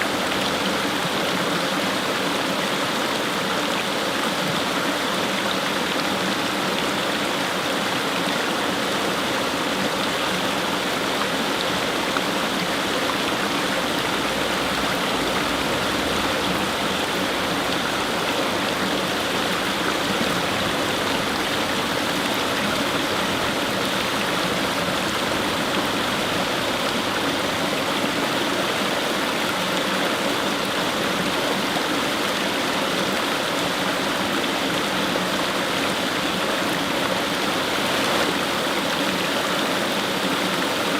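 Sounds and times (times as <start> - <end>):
water rushing over stones: 0.0 - 40.9.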